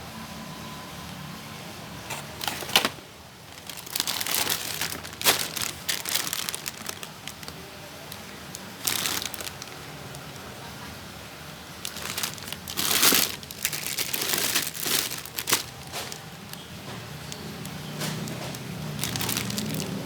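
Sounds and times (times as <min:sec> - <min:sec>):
plastic crinkling and rustling: 0:02.1 - 0:20.0.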